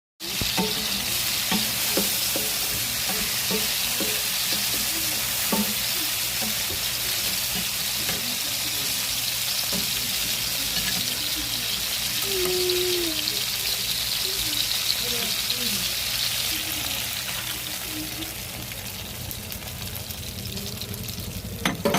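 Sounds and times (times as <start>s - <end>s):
food sizzling in oil: 0.2s - 21.9s.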